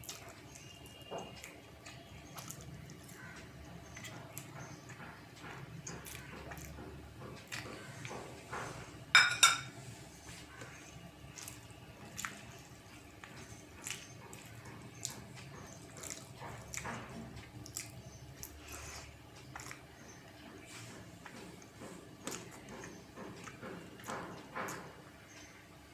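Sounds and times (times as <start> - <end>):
wet chewing and smacking: 0.0 - 8.7, 10.2 - 25.6.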